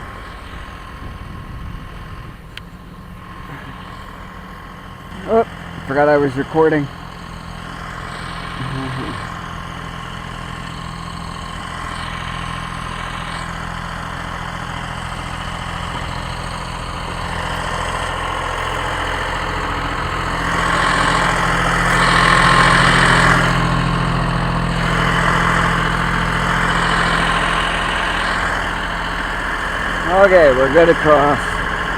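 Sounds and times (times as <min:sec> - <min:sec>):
vehicle engine humming at low revs: 0:00.0 - 0:31.9.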